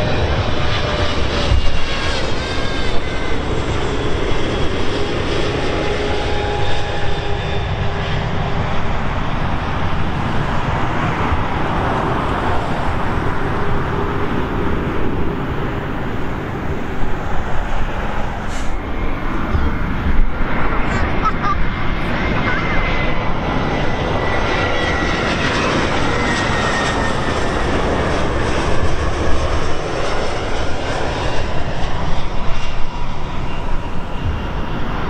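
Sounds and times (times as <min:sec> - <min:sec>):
high whining fan tones: 0:00.0 - 0:35.0
jet engine roar overhead: 0:00.0 - 0:35.0.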